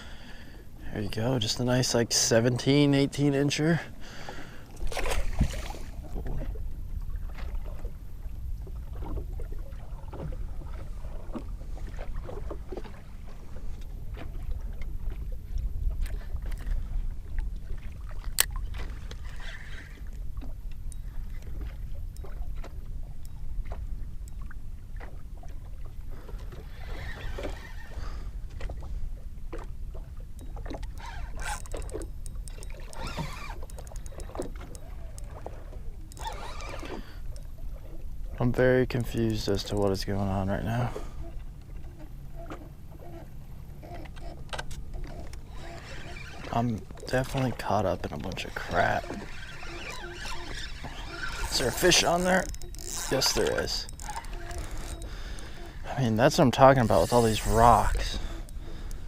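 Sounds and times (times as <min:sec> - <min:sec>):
wind and water rumble: 0:00.0 - 0:59.0.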